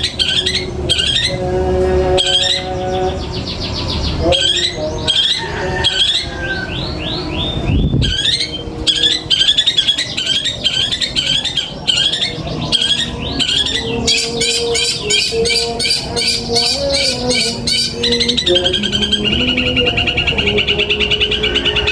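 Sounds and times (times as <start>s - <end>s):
songbird calls and trills: 0.0s - 21.9s.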